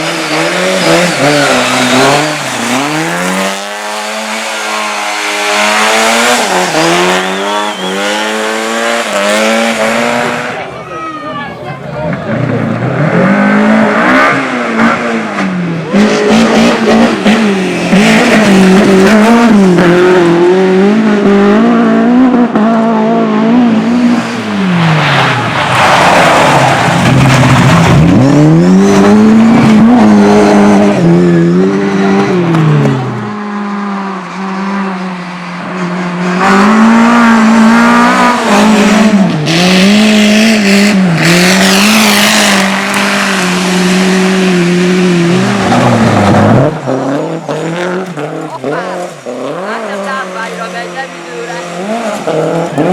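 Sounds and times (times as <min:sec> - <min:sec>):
race car engine revving: 0:00.0 - 0:11.1, 0:11.7 - 0:52.9.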